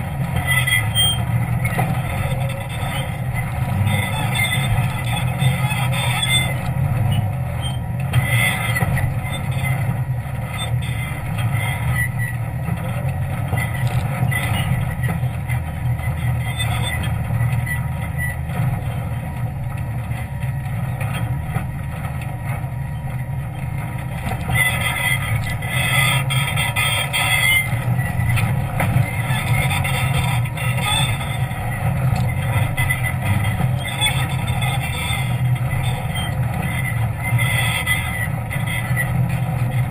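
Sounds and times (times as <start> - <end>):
jeep engine running: 0.0 - 39.9.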